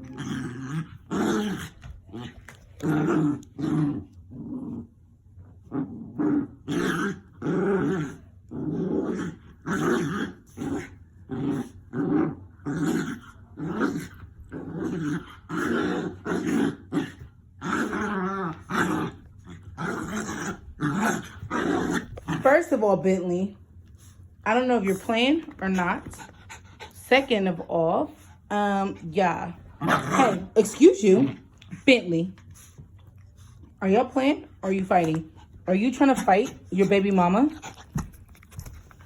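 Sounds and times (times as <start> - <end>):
dogs growling: 0.0 - 23.2, 24.0 - 39.0.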